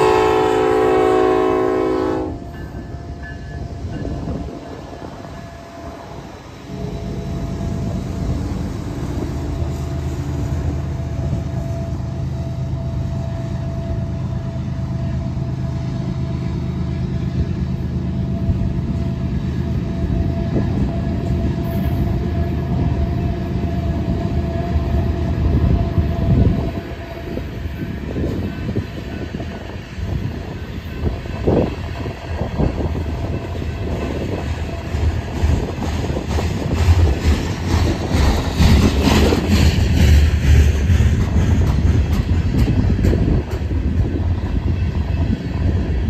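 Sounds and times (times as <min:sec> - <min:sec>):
locomotive engines droning: 0:00.0 - 0:46.0
train wheels rumbling on rails: 0:00.0 - 0:46.0.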